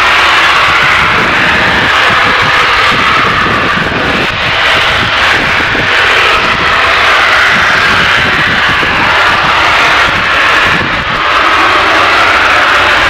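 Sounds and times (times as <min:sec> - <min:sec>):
high-pressure gas hissing: 0:00.0 - 0:13.0.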